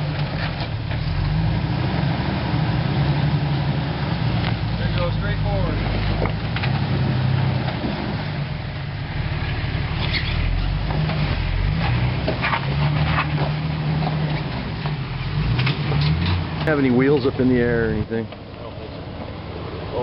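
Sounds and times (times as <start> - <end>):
vehicle engine running under load: 0.0 - 20.0.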